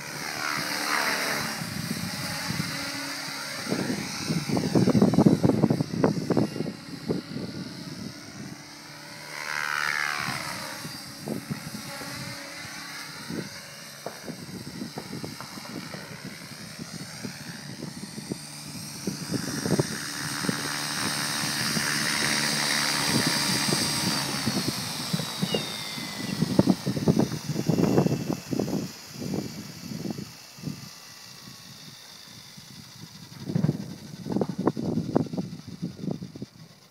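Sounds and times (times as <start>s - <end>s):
wind rumbling on microphone: 0.0s - 8.8s, 9.5s - 36.9s
model helicopter rotor humming: 0.0s - 36.9s.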